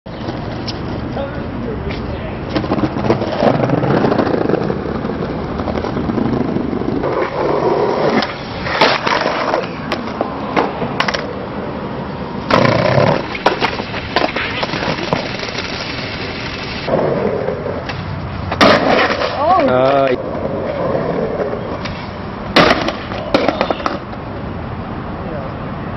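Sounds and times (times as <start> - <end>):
skateboard clacking on ground: 0.1 - 11.4, 12.4 - 24.3
skateboard wheels rolling on asphalt: 0.1 - 25.9.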